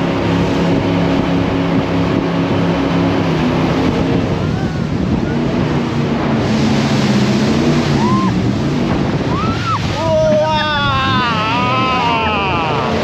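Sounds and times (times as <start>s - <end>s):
boat engine running: 0.0s - 13.0s
rushing water: 0.0s - 13.0s
wind: 0.0s - 13.0s.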